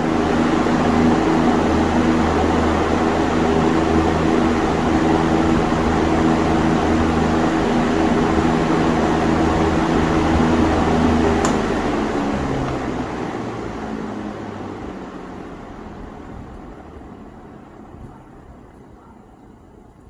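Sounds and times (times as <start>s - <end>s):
rush of air from fan: 0.0s - 19.2s
fan motor hum: 0.0s - 20.0s.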